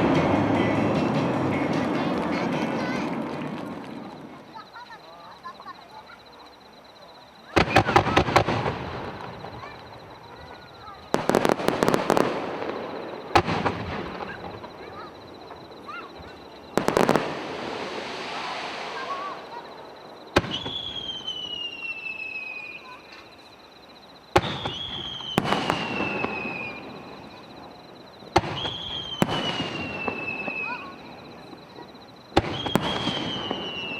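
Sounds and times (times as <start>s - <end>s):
falling firework whistle: 0.0s - 33.9s
fireworks bursting with bangs: 0.0s - 33.9s
fireworks crackling: 0.0s - 33.9s.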